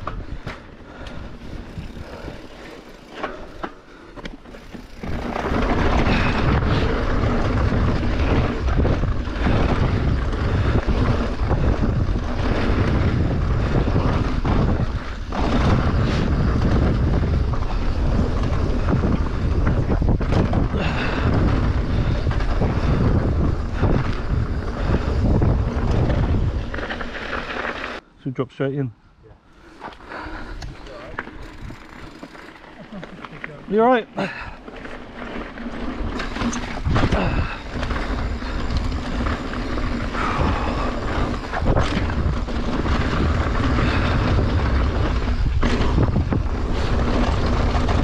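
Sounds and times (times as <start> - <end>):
wind buffeting microphone: 0.0 - 3.6, 4.6 - 27.2, 30.1 - 32.7, 34.2 - 48.0
bike tyres rumbling on dirt: 0.0 - 28.1, 29.6 - 48.0.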